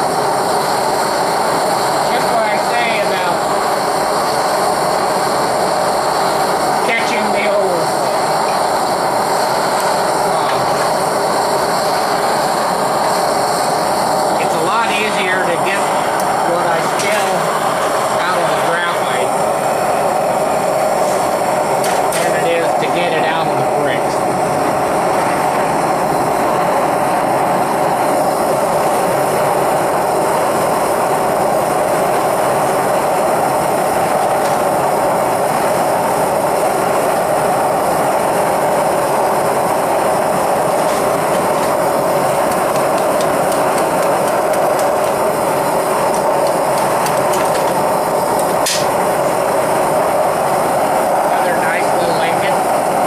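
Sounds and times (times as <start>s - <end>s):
propane burner rushing: 0.0s - 53.0s.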